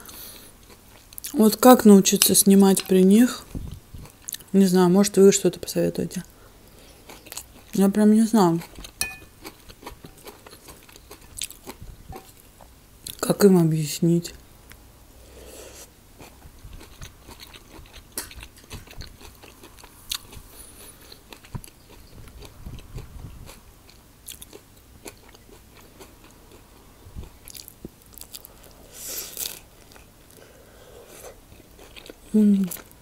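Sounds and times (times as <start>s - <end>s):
person chewing: 0.0s - 1.4s, 2.6s - 4.5s, 6.8s - 7.8s, 8.5s - 13.2s, 14.7s - 33.0s.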